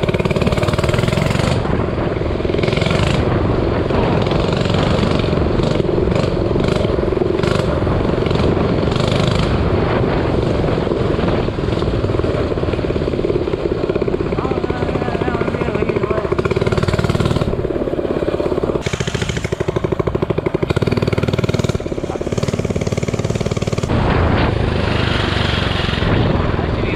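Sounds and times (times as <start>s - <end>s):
minibike engine running: 0.0s - 26.9s.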